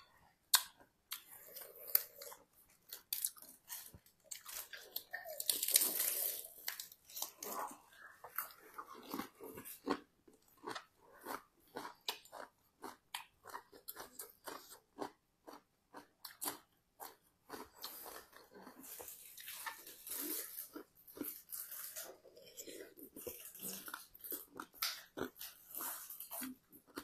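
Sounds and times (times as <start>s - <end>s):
chewing and crunching salad: 0.0s - 27.0s.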